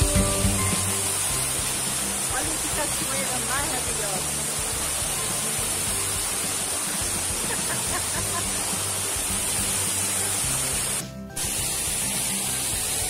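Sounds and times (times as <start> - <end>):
background music: 0.0 - 13.0
waterfall rushing: 0.0 - 13.0.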